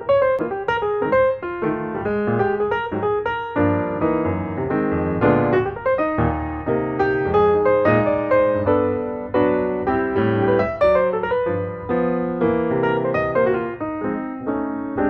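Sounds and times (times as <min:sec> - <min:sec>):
light piano music: 0:00.0 - 0:15.0.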